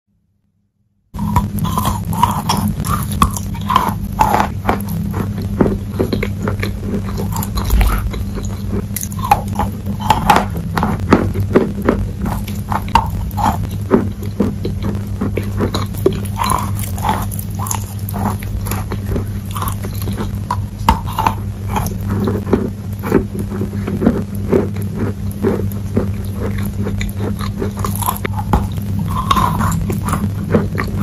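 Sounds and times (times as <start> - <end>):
steady low hum: 1.1 - 31.0
chalk being chewed: 1.2 - 31.0.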